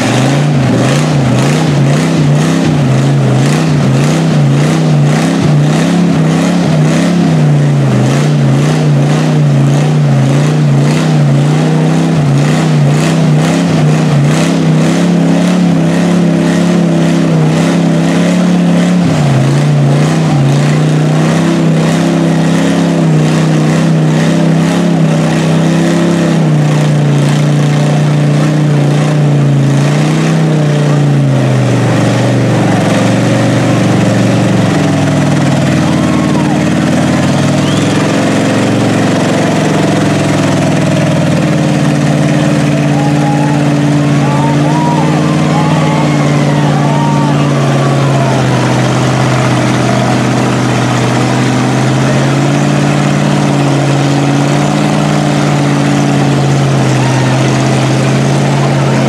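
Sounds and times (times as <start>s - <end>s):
engine at high revs: 0.0s - 59.0s
tires spinning in mud: 0.0s - 59.0s.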